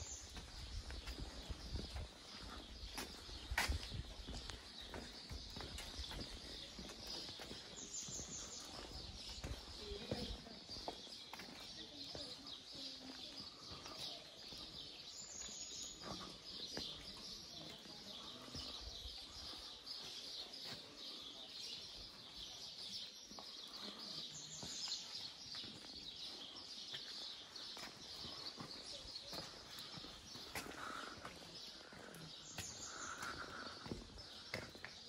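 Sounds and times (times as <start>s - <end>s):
footsteps on cobblestones: 0.0s - 35.0s
small birds chirping: 0.0s - 35.0s.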